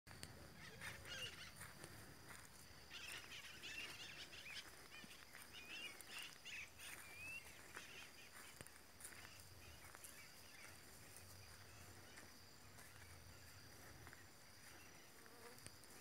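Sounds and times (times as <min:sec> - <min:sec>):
birds chirping: 0:00.1 - 0:15.3.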